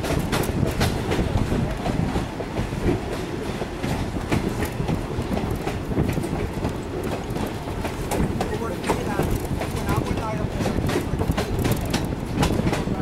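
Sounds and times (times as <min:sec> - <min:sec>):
railroad car rumbling on track: 0:00.0 - 0:13.0
wheels clicking over rails: 0:00.0 - 0:13.0.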